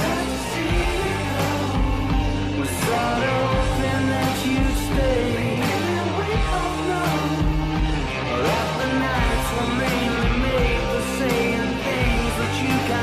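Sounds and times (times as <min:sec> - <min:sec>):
song with singer and band: 0:00.0 - 0:13.0.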